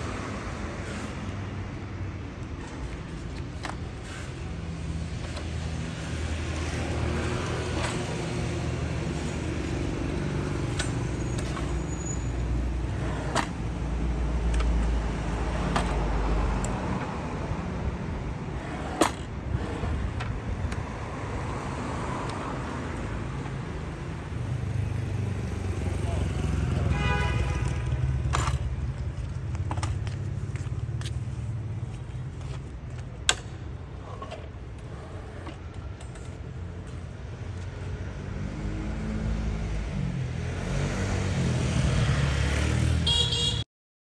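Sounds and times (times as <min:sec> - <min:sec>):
road traffic rumble: 0:00.0 - 0:43.7.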